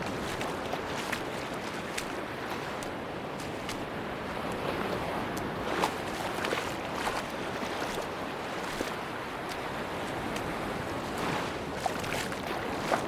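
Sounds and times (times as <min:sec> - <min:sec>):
sea waves washing onto beach: 0:00.0 - 0:13.0
small splashy crackles: 0:00.0 - 0:13.0
wind: 0:00.0 - 0:13.0.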